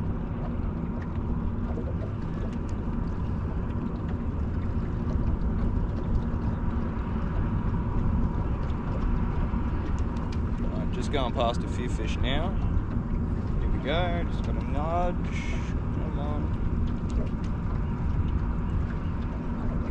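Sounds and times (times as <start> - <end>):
boat motor running: 0.0 - 19.9
water wash: 0.0 - 19.9
wind: 0.0 - 19.9.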